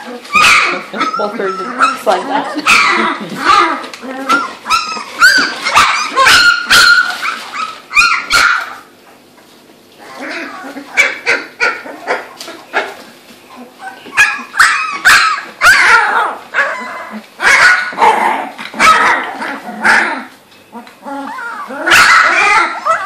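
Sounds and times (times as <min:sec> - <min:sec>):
puppies yipping and barking: 0:00.0 - 0:09.2, 0:09.9 - 0:23.0.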